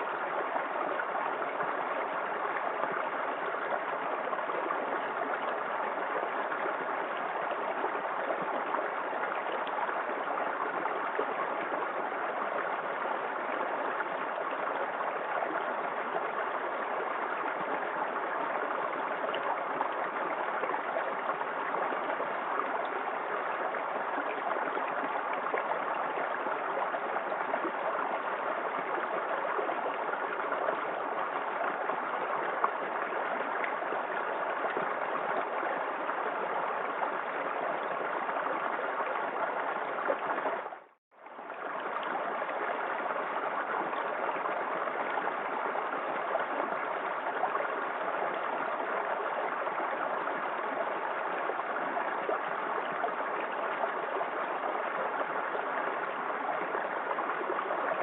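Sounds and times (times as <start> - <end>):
small waterfall pouring: 0.0 - 58.0.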